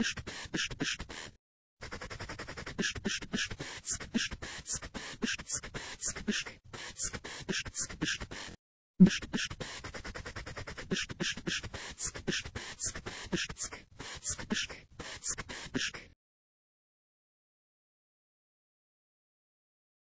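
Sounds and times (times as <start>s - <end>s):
synthetic voice beatboxing: 0.0s - 16.2s.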